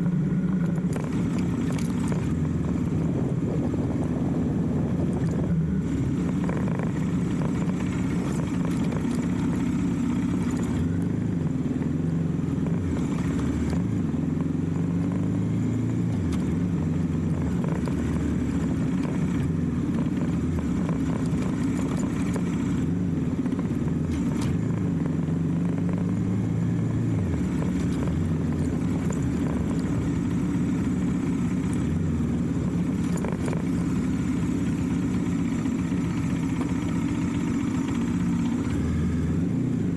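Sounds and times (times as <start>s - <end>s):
motorcycle engine: 0.0s - 39.9s
road and wind noise: 0.0s - 39.9s.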